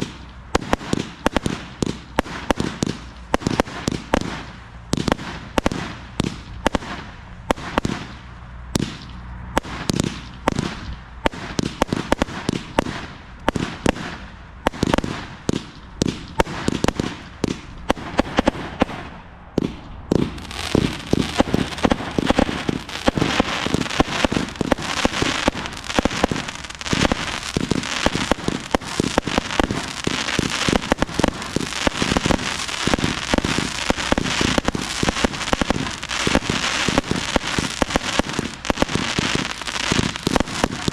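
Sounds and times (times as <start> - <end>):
dense firework crackling: 0.0 - 40.9
firework shots firing: 0.0 - 40.9.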